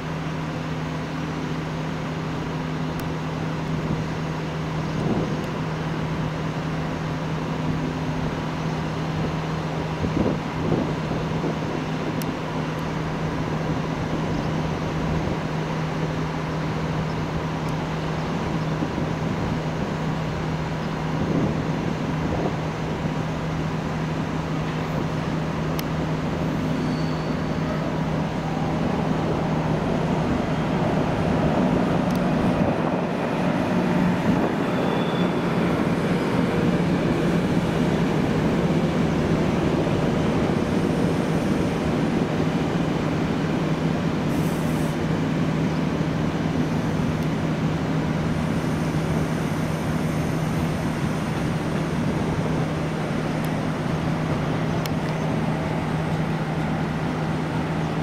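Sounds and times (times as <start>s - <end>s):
electric locomotive hum: 0.0s - 58.0s
rail and yard noise: 0.0s - 58.0s.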